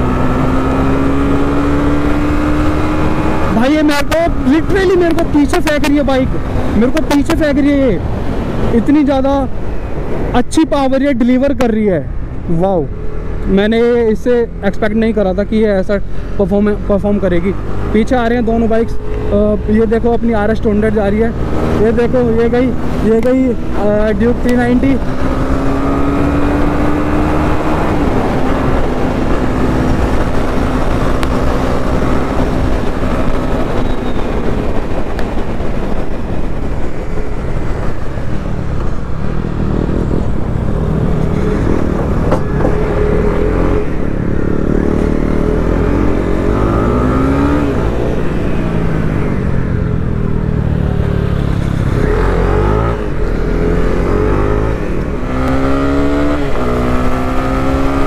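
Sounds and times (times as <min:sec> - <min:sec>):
motorcycle engine accelerating: 0:00.0 - 0:07.3, 0:16.7 - 0:58.0.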